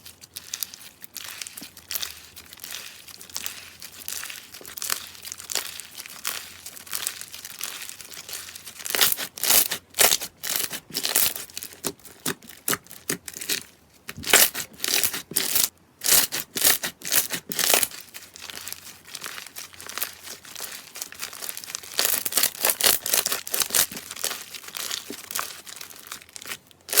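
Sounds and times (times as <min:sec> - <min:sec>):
slime crackling and popping: 0:00.2 - 0:27.0.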